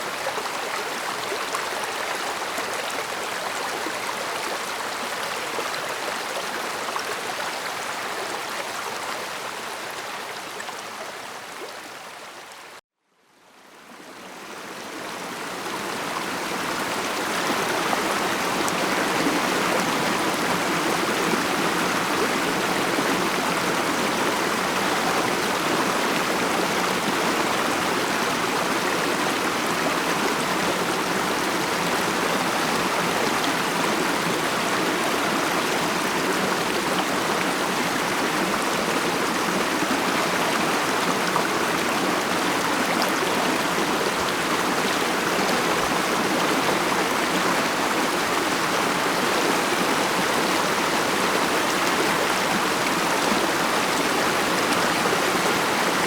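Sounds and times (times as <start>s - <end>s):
stream flowing over rocks: 0.0s - 12.8s, 13.6s - 56.0s.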